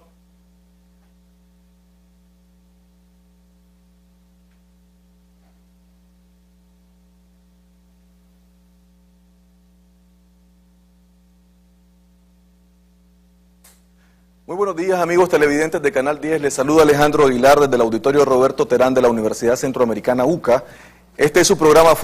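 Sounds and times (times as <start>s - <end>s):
faint electrical mains hum: 0.0s - 22.0s.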